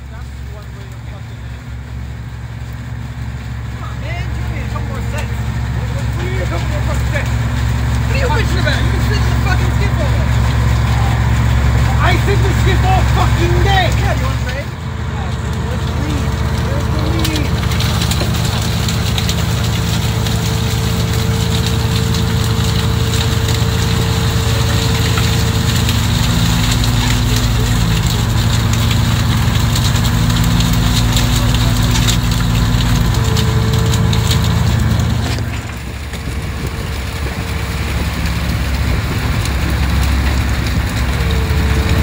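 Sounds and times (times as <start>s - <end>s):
boat machinery humming: 0.0s - 42.0s
held whine: 3.1s - 42.0s.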